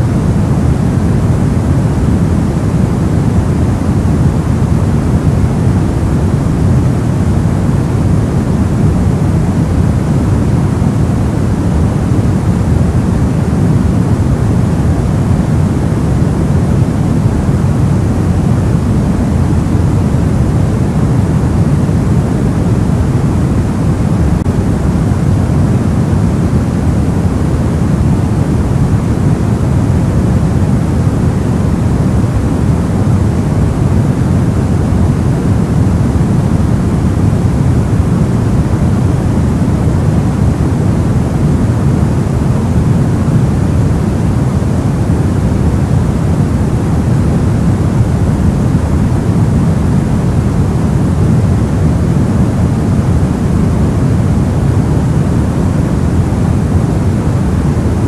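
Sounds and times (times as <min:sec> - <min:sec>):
soft white noise: 0:00.0 - 0:58.0.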